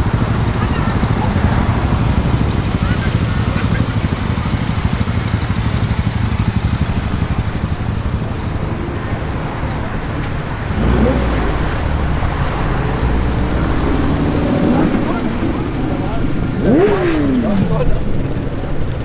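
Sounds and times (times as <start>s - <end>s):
car engine revving: 0.0s - 19.0s
road traffic: 0.0s - 19.0s.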